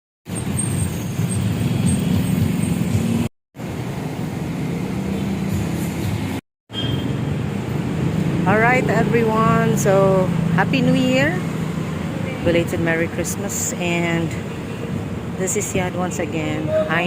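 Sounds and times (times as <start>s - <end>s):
passing cars and buses: 0.2s - 17.0s.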